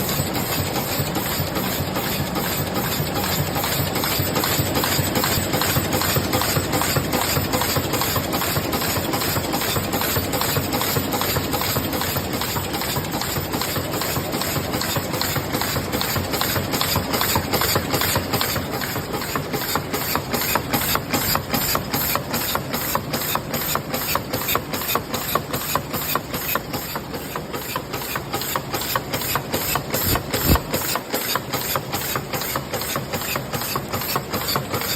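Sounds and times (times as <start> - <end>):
machine clattering: 0.0 - 34.9.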